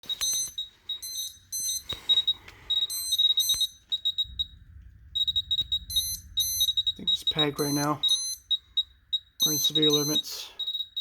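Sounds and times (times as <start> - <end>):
high electronic chirping beeps: 0.0 - 4.6, 5.2 - 11.0
shrill alarm beep: 0.0 - 4.6, 5.2 - 11.0.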